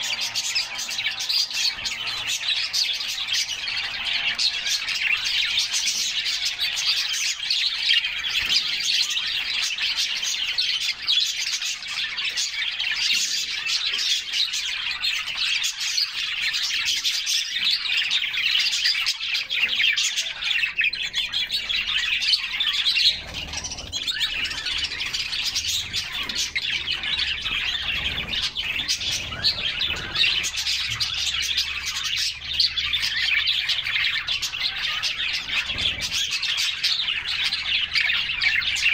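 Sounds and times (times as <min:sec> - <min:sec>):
canaries chirping and singing: 0:00.0 - 0:38.9.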